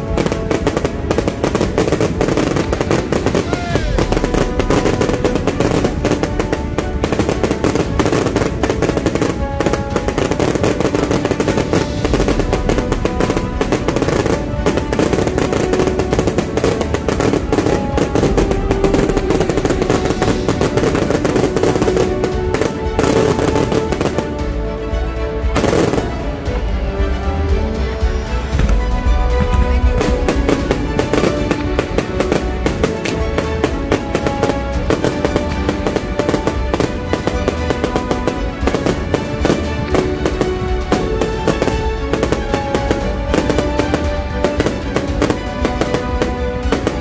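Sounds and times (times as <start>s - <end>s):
fireworks bangs and crackles: 0.0s - 47.0s
music playing: 0.0s - 47.0s.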